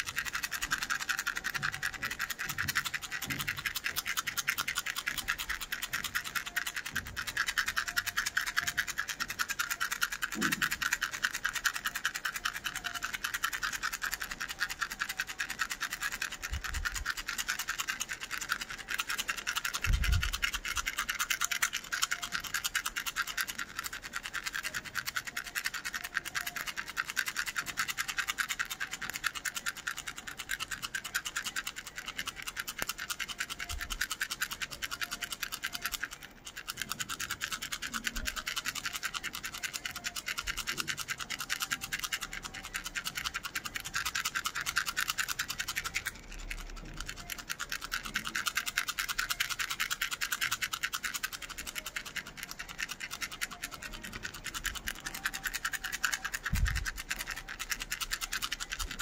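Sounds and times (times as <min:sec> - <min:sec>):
plastic toy rattle shaken: 0:00.0 - 0:59.0.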